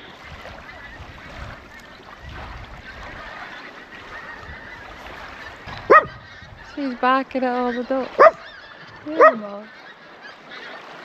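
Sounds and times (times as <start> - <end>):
wind rumble on microphone: 0.0 - 9.6
ducks calling: 0.1 - 11.0.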